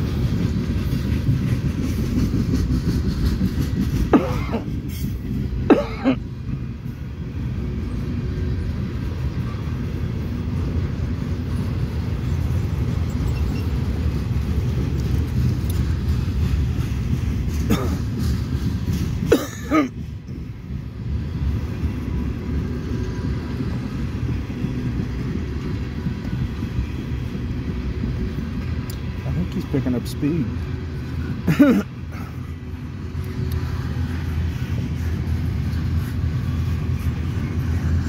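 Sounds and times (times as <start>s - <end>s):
freight train rumbling past: 0.0s - 38.0s.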